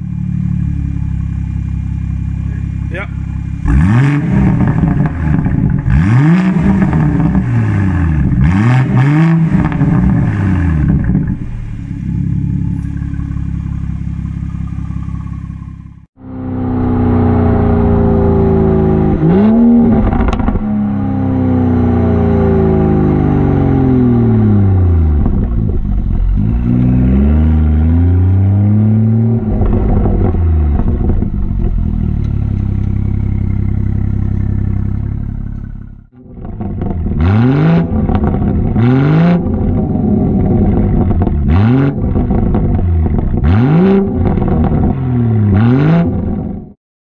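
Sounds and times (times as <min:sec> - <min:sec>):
car exhaust revving: 0:00.0 - 0:46.8.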